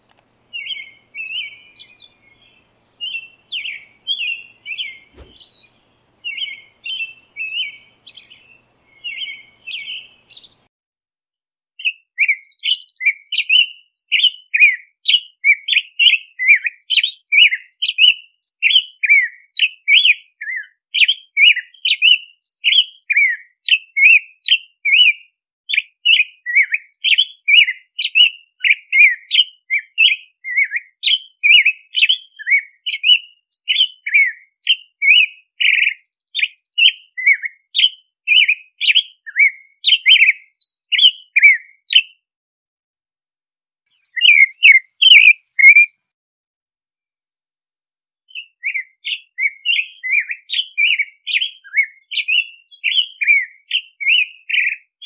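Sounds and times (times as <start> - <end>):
robin singing: 0.0 - 10.7, 11.8 - 42.2, 43.9 - 46.0, 48.3 - 55.0.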